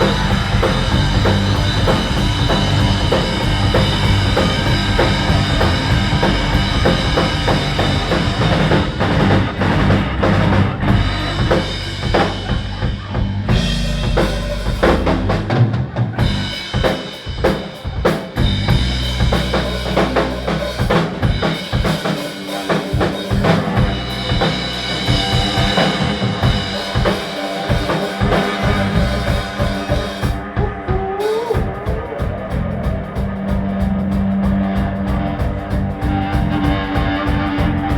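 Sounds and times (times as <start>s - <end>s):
heavy bass: 0.0s - 37.9s
live rock band playing: 0.0s - 37.9s
pounding drum kit: 0.0s - 37.9s.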